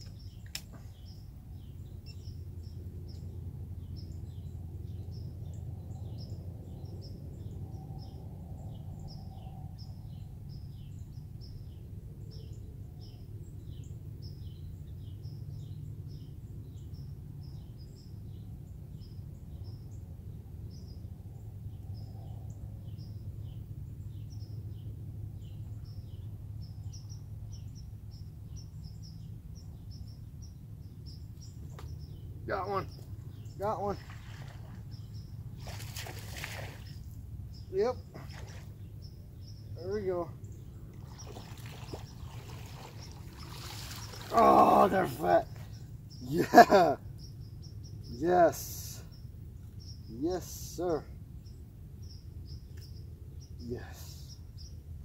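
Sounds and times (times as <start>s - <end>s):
steady low rumble: 0.0s - 50.2s
small birds chirping: 0.0s - 55.0s.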